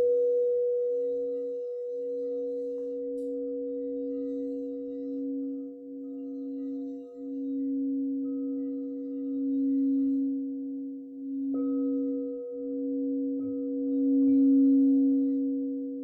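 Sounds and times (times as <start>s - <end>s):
singing bowls humming: 0.0s - 16.0s.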